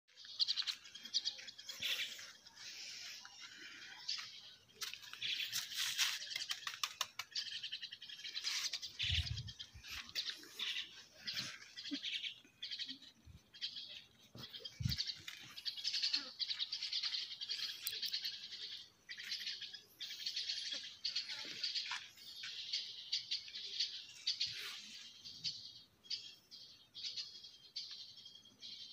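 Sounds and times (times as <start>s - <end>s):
small birds chirping: 0.1s - 28.9s.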